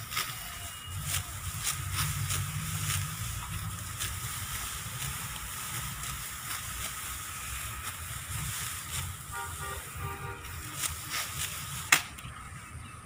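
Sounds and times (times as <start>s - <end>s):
sickles cutting rice stalks: 0.0s - 12.8s.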